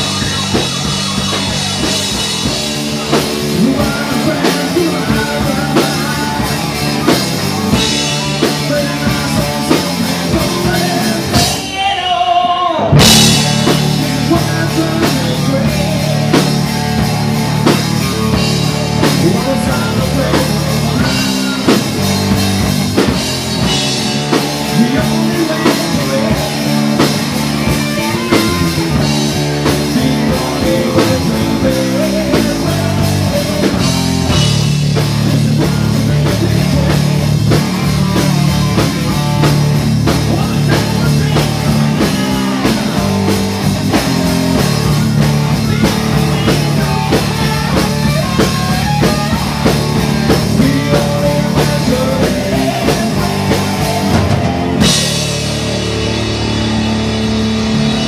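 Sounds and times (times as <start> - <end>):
man singing: 0.0 - 55.5
drum kit: 0.0 - 58.0
electric guitars: 0.0 - 58.0.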